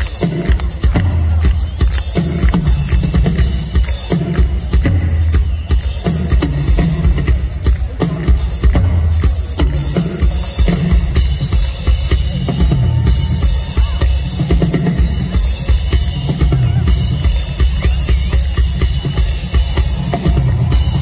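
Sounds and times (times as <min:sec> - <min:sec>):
bass drum and snare beat: 0:00.0 - 0:21.0.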